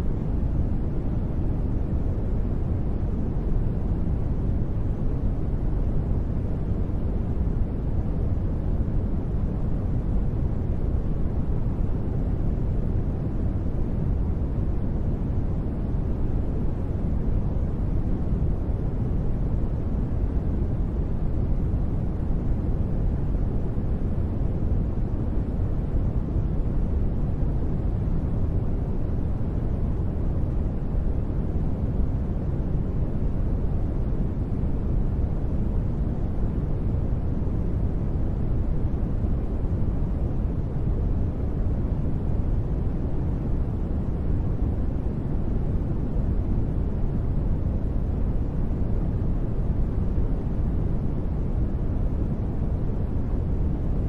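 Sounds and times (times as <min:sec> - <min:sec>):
deep white noise rumble: 0:00.0 - 0:54.0.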